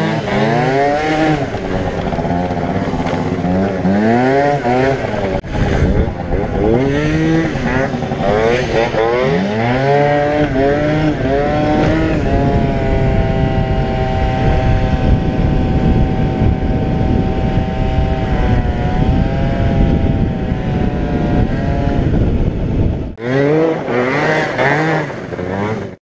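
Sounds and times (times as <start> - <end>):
scooter engine at full throttle: 0.0 - 26.0
wind rushing over microphone: 0.0 - 26.0.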